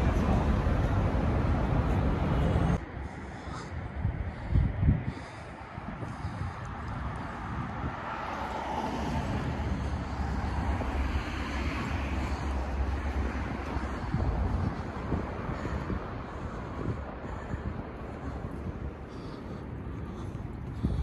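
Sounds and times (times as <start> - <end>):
rumble of vehicle traffic: 0.0 - 21.0.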